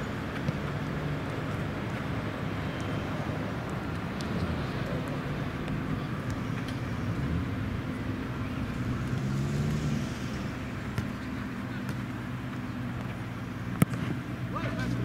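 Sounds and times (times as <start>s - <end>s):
distant engine rumble: 0.9s - 15.0s.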